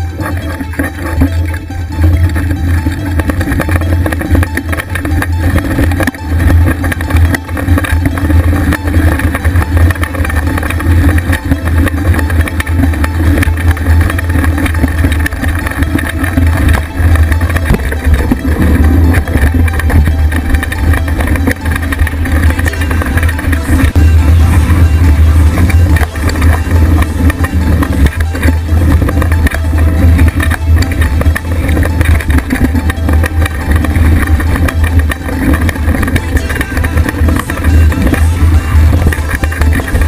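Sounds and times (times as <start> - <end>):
tyre and frame vibration: 0.0 - 40.0.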